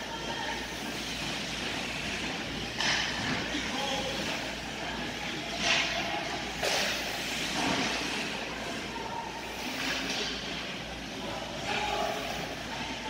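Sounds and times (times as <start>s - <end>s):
low rink hum: 0.0s - 13.0s.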